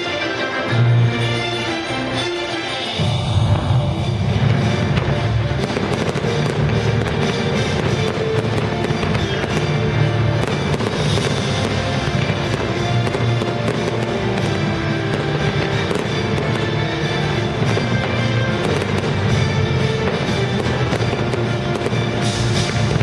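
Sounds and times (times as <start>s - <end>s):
music playing: 0.0s - 23.0s
fireworks bangs and crackling: 2.8s - 23.0s.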